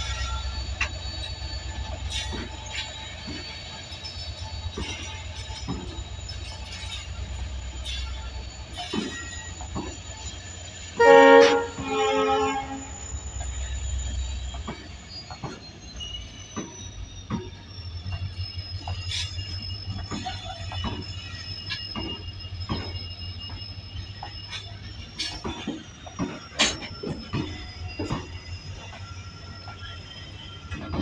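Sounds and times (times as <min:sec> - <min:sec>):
wheels clicking over rail joints: 0:00.0 - 0:15.9, 0:16.5 - 0:31.0
high wheel squeal: 0:00.0 - 0:31.0
train rumbling past: 0:00.0 - 0:31.0.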